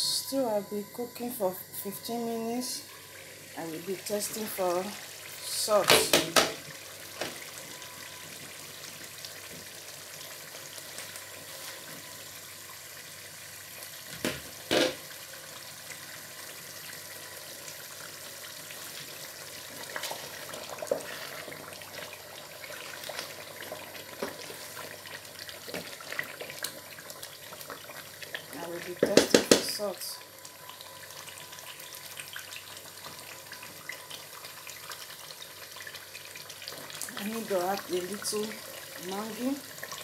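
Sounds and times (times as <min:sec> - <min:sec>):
stew bubbling in a pot: 0:02.9 - 0:40.0.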